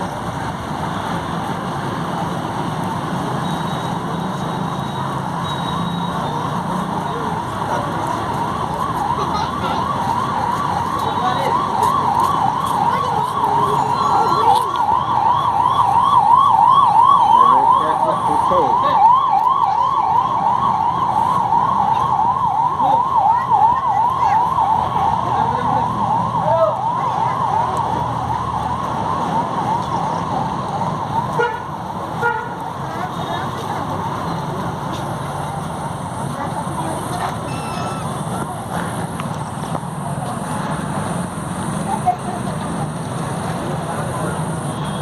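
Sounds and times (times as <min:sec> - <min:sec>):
traffic noise: 0:00.0 - 0:45.0
emergency siren yelping: 0:03.6 - 0:33.6, 0:35.4 - 0:45.0.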